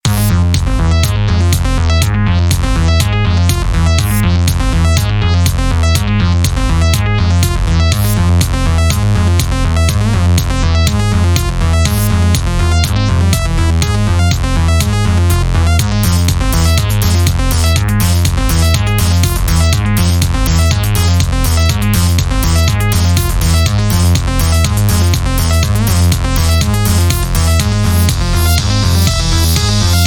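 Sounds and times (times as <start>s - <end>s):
drum machine beat: 0.0s - 30.0s
synthesizer: 0.0s - 30.0s.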